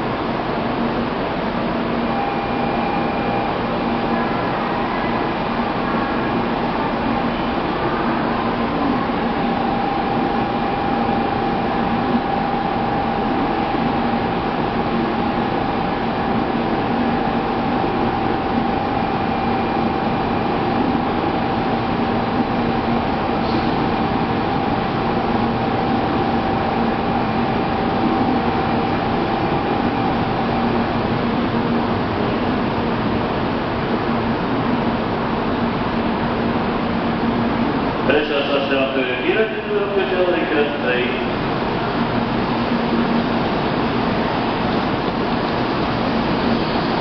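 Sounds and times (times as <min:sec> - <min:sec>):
train equipment humming: 0:00.0 - 0:47.0.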